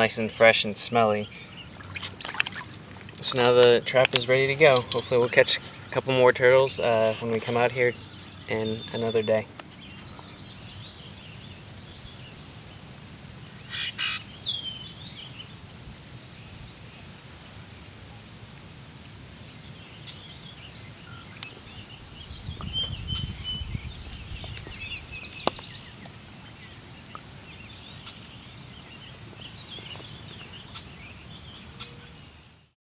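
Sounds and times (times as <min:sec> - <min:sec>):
small birds chirping: 0:00.0 - 0:18.4, 0:19.0 - 0:32.8.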